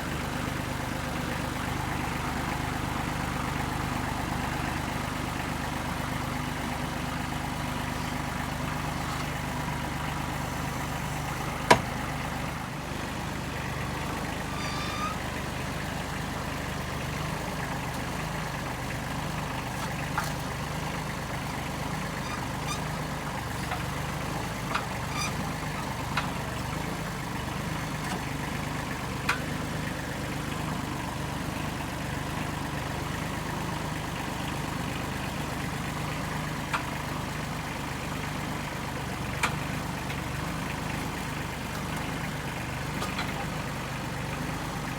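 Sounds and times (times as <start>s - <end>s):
vehicle engine idling: 0.0s - 44.9s.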